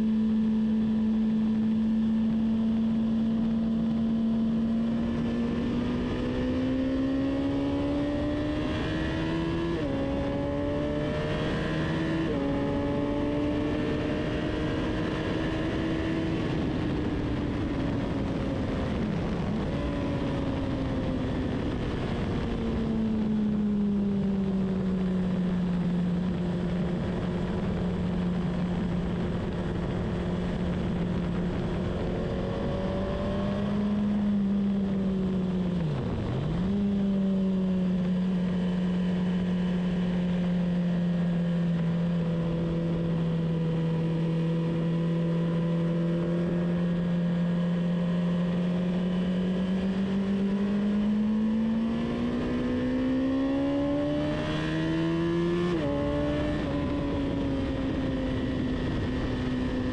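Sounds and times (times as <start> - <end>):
wind and tyre noise: 0.0 - 59.9.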